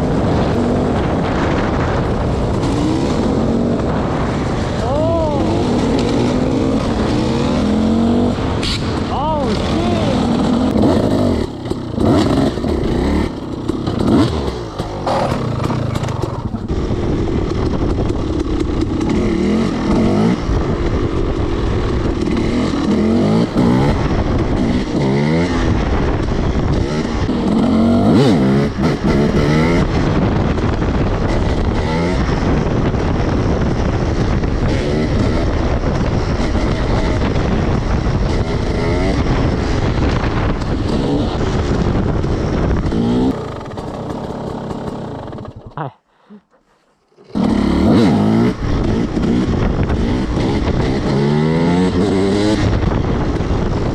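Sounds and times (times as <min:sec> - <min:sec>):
dirt bike engine revving: 0:00.0 - 0:45.8, 0:47.1 - 0:53.9.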